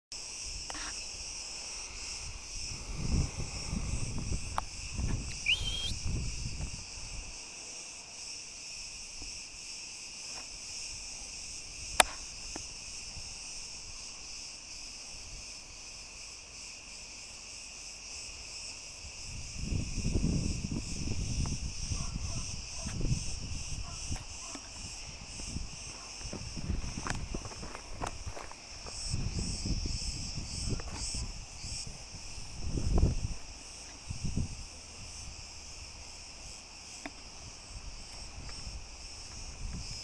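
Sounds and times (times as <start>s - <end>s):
insects chirring: 0.1s - 40.0s.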